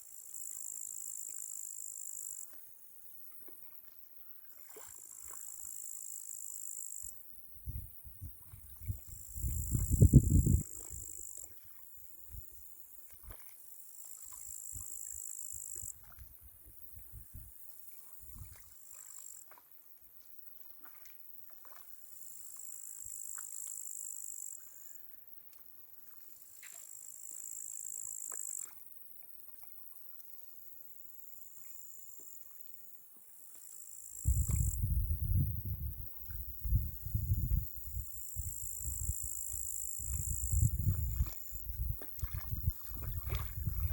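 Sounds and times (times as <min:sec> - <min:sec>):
crickets trilling: 0:00.1 - 0:02.9, 0:04.8 - 0:13.0, 0:13.6 - 0:19.6, 0:21.8 - 0:25.4, 0:26.5 - 0:28.7, 0:31.4 - 0:43.9.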